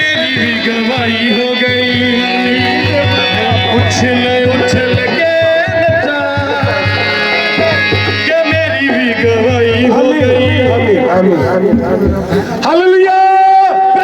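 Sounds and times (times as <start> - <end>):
music with steady drum beat: 0.0 - 12.7.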